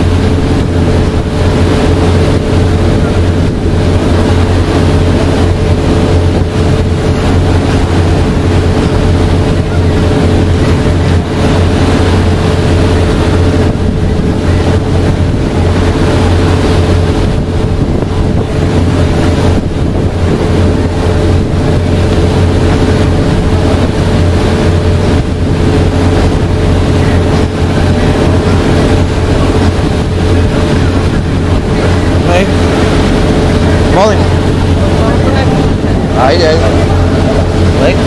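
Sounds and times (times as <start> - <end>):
boat engine humming: 0.0 - 38.0
wind on microphone: 0.0 - 38.0.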